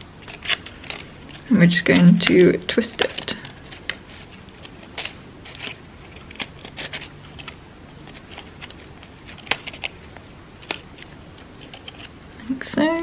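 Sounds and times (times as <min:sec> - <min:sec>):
crepe paper crackling and rustling: 0:00.0 - 0:12.3.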